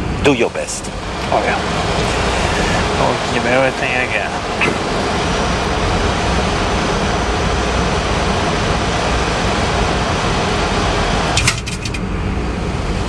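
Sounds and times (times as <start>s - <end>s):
low engine hum: 0.1s - 13.0s
rush of airflow: 0.8s - 11.4s
faint high steady tone: 0.9s - 12.0s.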